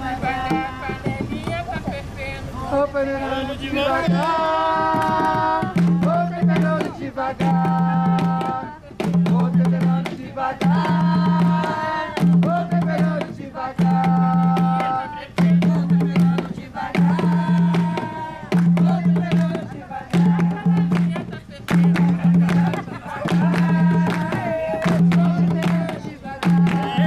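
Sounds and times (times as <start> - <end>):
voices singing repeated phrases: 0.0 - 27.0
hand drums struck rapidly: 0.2 - 2.0, 4.1 - 27.0.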